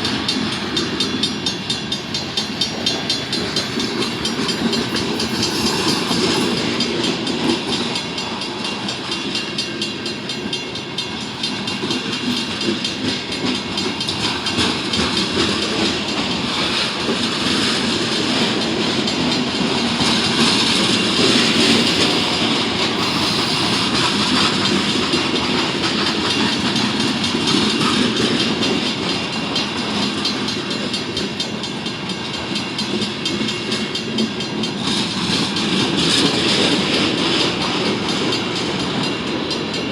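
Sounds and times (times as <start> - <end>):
wheel clicks on rail: 0.0 - 39.9.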